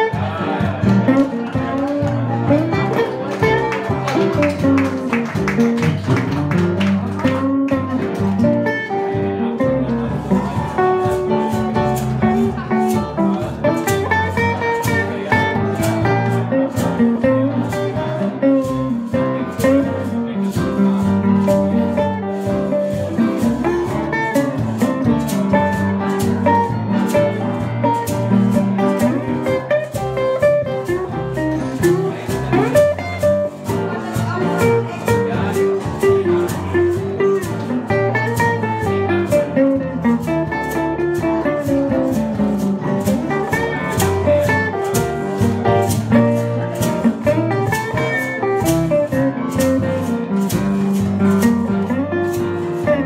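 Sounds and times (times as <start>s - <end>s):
electric jazz guitar playing: 0.0s - 53.0s.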